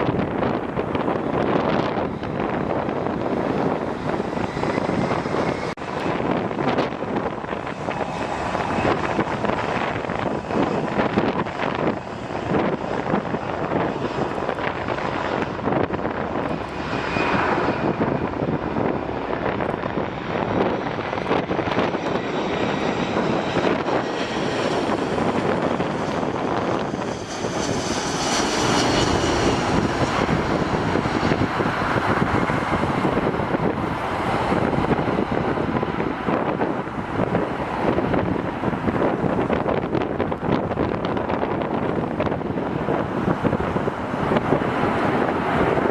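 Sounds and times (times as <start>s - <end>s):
high jet engine whine: 0.0s - 45.9s
jet engines rushing: 0.0s - 45.9s.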